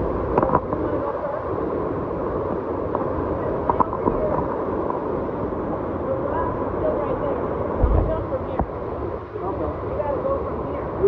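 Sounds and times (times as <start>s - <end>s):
water rushing through rock gorge: 0.0s - 11.0s.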